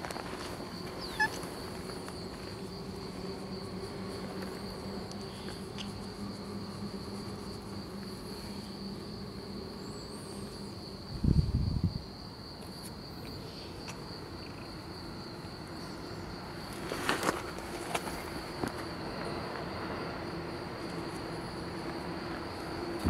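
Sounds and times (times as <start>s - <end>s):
insect chirring: 0.0s - 23.0s.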